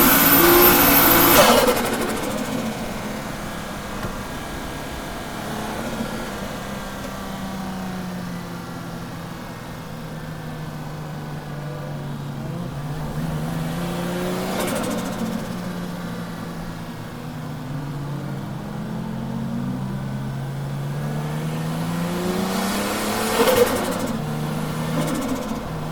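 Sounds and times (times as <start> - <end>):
misfiring car engine: 0.0 - 25.9.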